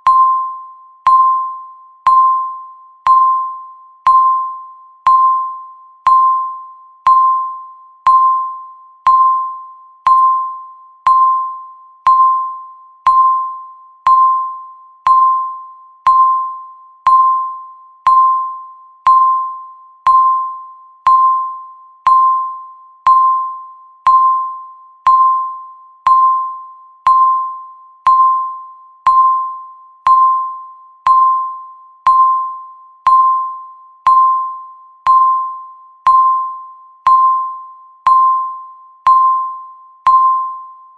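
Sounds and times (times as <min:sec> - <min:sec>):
timer ticking tone: 0:00.0 - 0:40.9.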